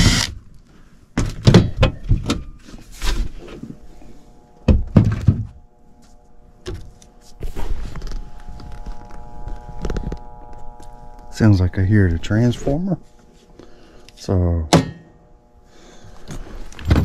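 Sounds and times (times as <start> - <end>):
transformer electrical hum: 0.0 - 17.0.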